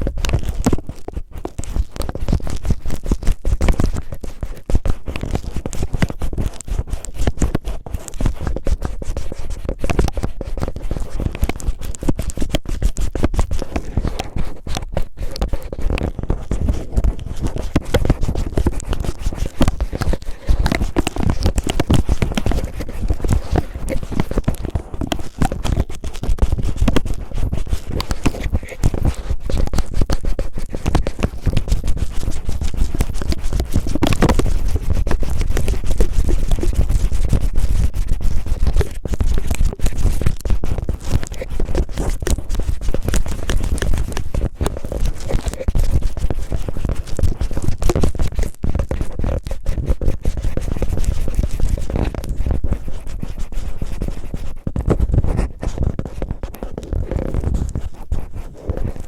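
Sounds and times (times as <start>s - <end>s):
cellophane crinkling on microphone: 0.0s - 59.0s.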